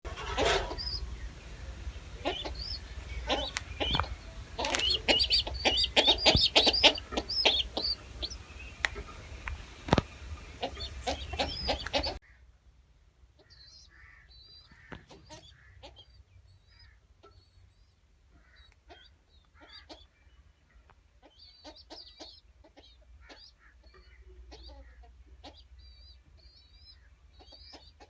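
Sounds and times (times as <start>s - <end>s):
low clucking calls: 0.1s - 12.3s, 13.4s - 17.7s, 18.3s - 28.0s
birds chirping and squawking: 0.1s - 12.4s, 13.4s - 28.0s.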